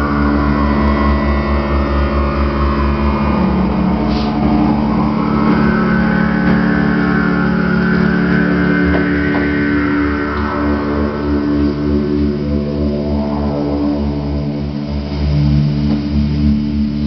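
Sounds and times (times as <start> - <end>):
low throbbing pulse: 0.0 - 17.0
synthesizer drone: 0.0 - 17.0.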